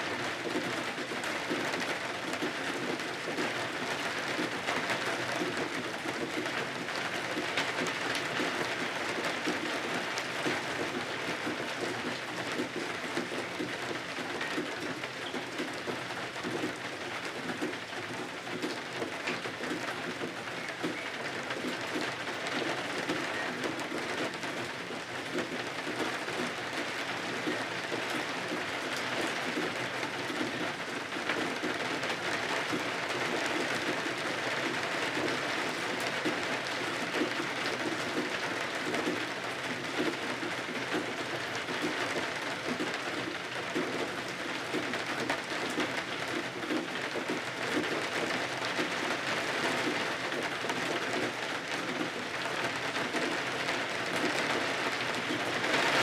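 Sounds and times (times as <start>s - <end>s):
rain pattering against windows: 0.0s - 56.0s.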